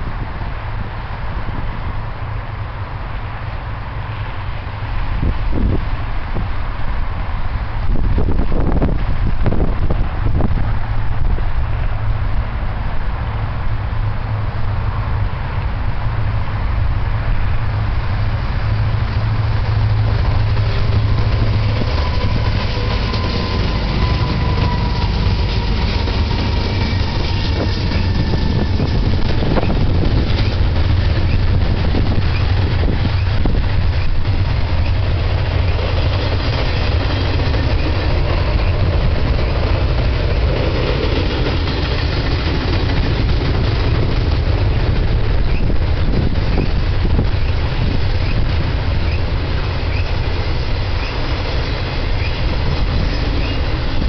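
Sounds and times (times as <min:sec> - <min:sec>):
diesel locomotive engine drone: 0:00.0 - 0:54.0
train wheels running on rails: 0:00.0 - 0:54.0.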